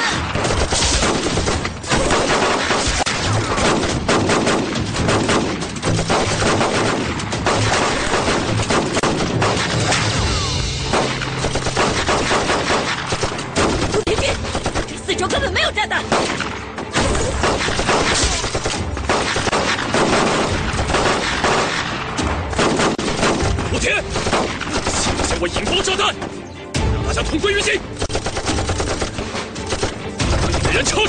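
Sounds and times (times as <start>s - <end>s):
rapid gunfire: 0.0s - 10.2s, 10.8s - 15.0s, 16.1s - 26.0s, 28.0s - 31.0s.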